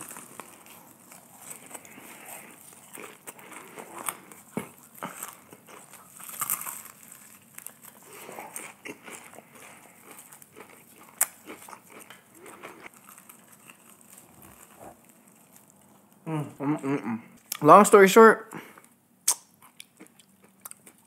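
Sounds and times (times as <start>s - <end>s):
chewing crispy fried chicken: 0.0s - 17.6s, 18.6s - 21.0s.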